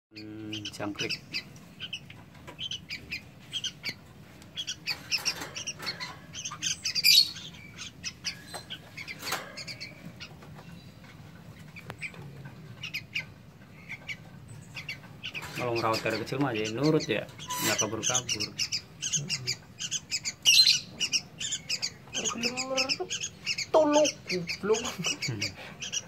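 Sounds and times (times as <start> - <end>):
young birds chirping and squawking: 0.1 - 26.0.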